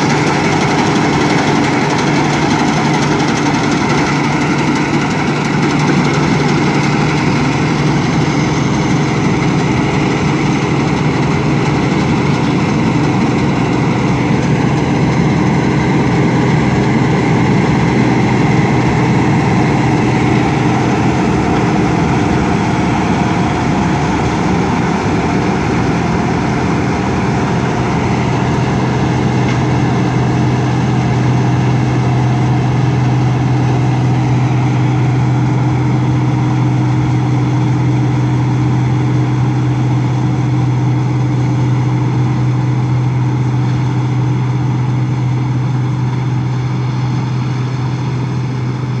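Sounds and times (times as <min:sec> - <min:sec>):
combine harvester engine hum: 0:00.0 - 0:49.0.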